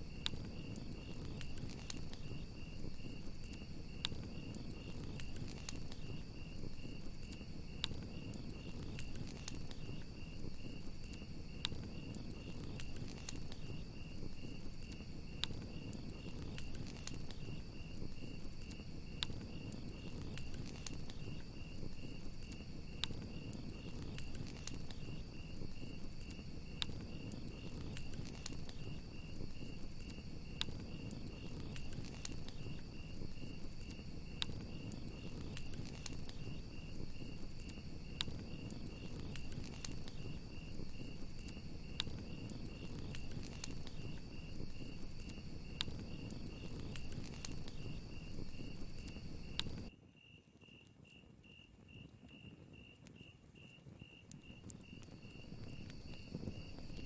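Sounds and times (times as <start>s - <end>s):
campfire crackling and popping: 0.0s - 49.9s, 51.7s - 57.0s
crickets trilling: 0.0s - 57.0s.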